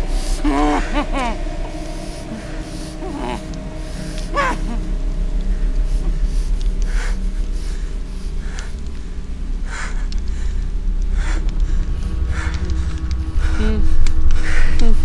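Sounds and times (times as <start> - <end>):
low steady hum: 0.0 - 15.0
person breathing hard: 0.0 - 15.0.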